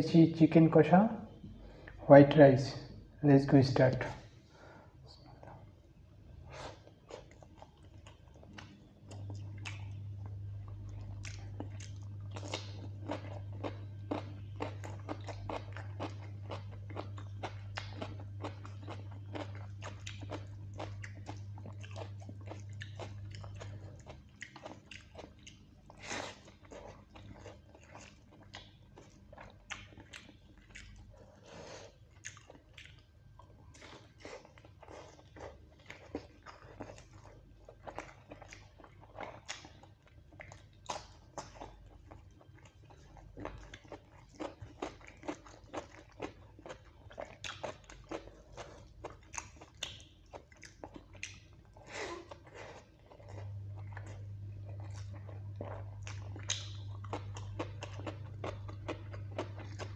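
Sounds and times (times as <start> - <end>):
steady low hum: 0.0 - 59.9
person chewing wetly: 6.7 - 59.9.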